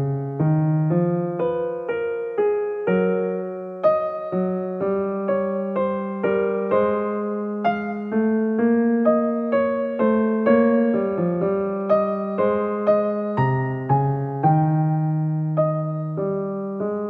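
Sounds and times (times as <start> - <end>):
electric piano chords: 0.0 - 17.0.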